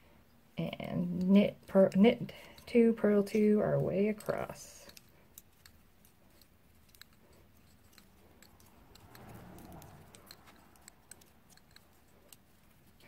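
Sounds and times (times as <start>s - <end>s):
knitting needles clicking: 0.5s - 13.0s.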